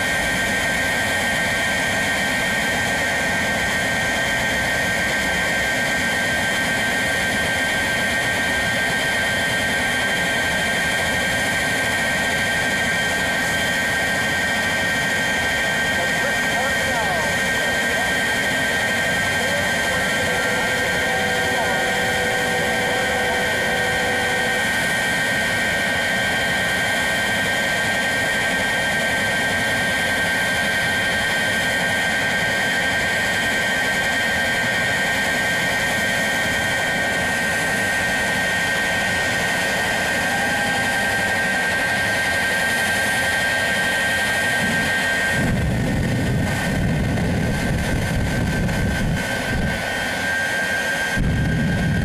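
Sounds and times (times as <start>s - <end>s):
jet engines whining: 0.0s - 52.0s.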